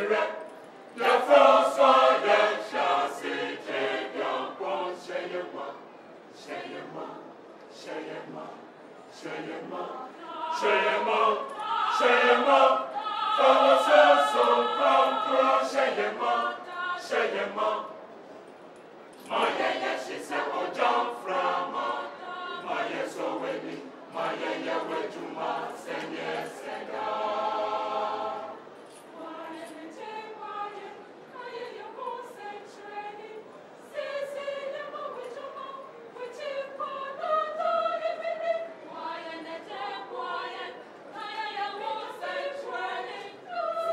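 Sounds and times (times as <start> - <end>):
mixed choir singing: 0.0 - 18.2, 19.2 - 43.9.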